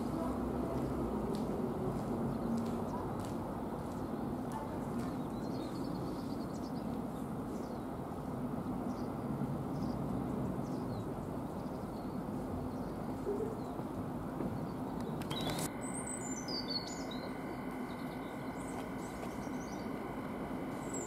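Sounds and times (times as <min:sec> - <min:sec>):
distant diesel train drone: 0:00.0 - 0:21.0
small birds chirping: 0:02.0 - 0:21.0.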